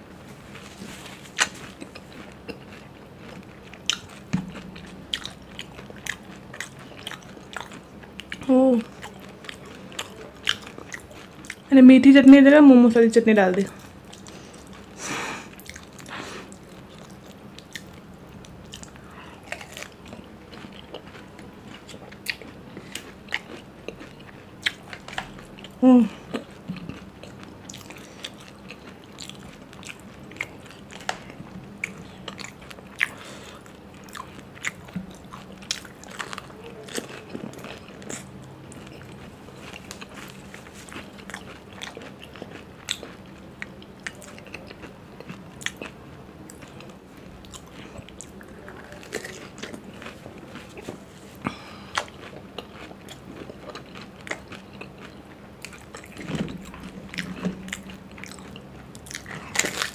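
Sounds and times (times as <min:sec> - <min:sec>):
chewing and crunching: 0:00.2 - 0:11.7, 0:13.5 - 0:59.9.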